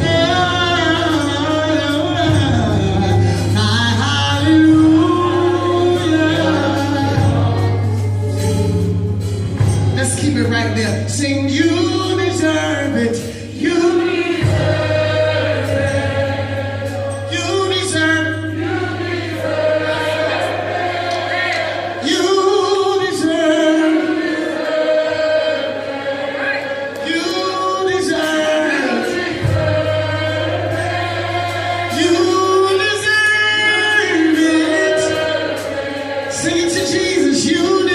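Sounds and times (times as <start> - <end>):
choir singing gospel: 0.0 - 37.9.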